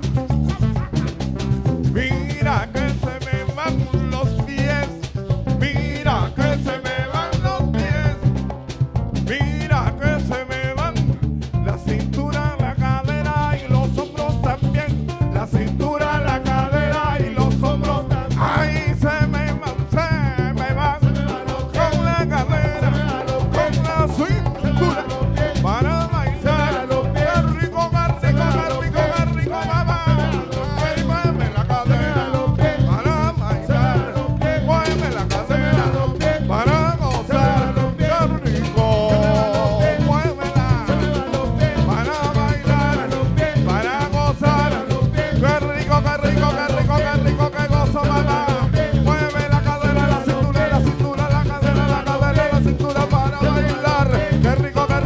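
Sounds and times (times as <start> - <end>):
man singing: 0.0 - 1.2, 1.8 - 8.5, 9.2 - 55.0
acoustic guitar: 0.0 - 55.0
cajon and hand drums beat: 0.0 - 55.0
electric bass: 0.0 - 55.0.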